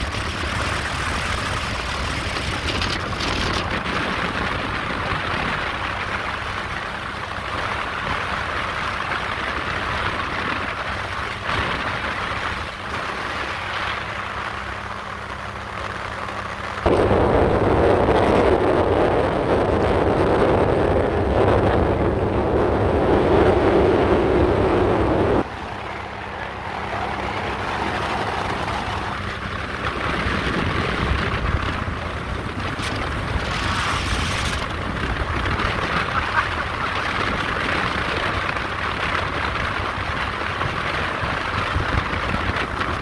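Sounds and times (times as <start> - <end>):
motorboat engine: 0.0 - 43.0
water rushing past hull: 0.0 - 43.0
wind buffeting microphone: 0.0 - 43.0.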